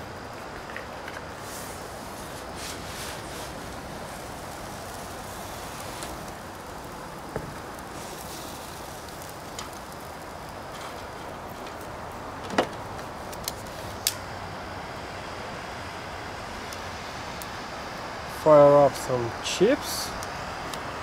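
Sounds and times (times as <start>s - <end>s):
gas burner hissing: 0.0s - 21.0s.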